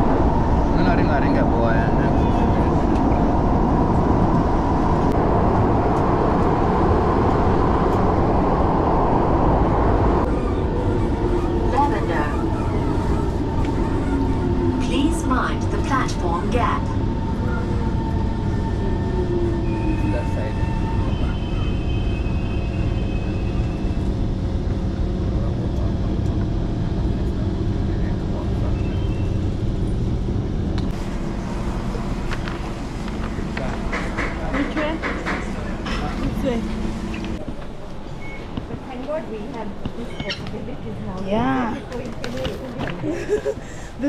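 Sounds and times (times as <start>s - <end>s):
metro train rumbling in tunnel: 0.0s - 44.0s.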